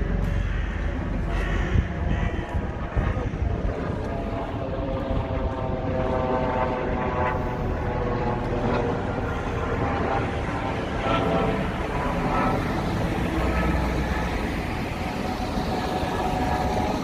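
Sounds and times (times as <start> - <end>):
low rumble: 0.0 - 16.7
engine hum with pitched drone: 0.0 - 17.0.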